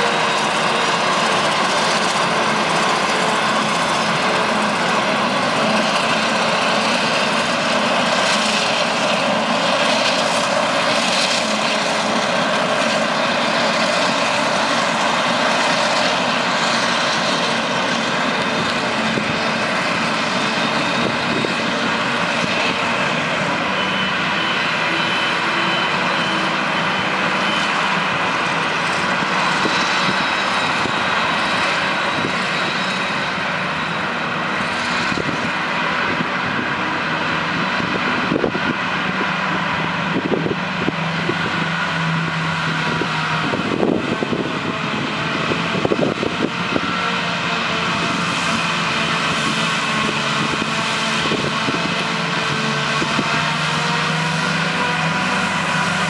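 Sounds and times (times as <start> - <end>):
forage harvester engine droning: 0.0 - 56.0
tractor engine running: 0.0 - 56.0.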